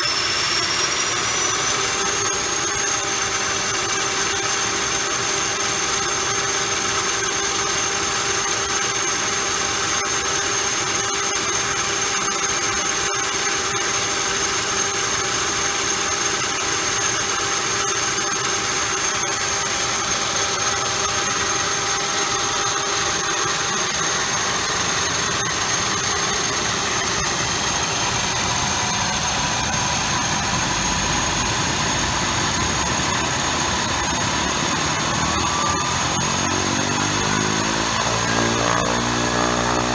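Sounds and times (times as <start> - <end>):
turboprop turbine whine: 0.0 - 39.9.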